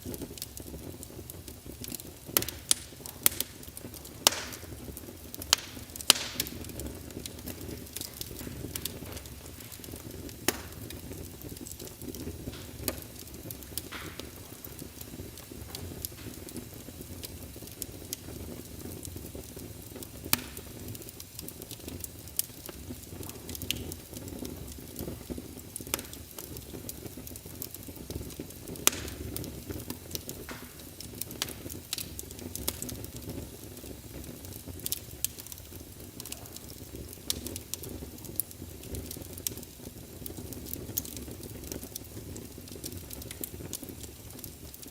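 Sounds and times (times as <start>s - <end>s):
fire burning: 0.0s - 44.9s
fire crackles and pops: 0.0s - 44.9s.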